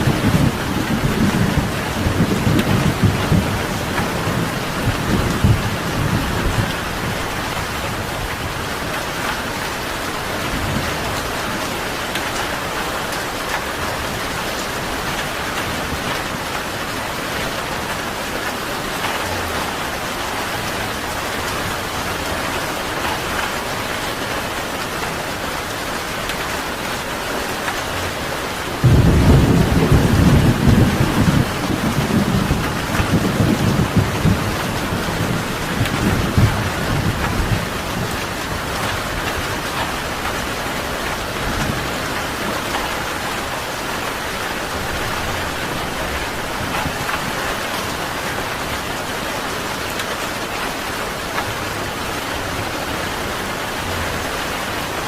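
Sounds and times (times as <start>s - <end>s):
thunder rumbling: 0.0s - 23.7s, 27.5s - 55.0s
heavy rain: 0.0s - 55.0s.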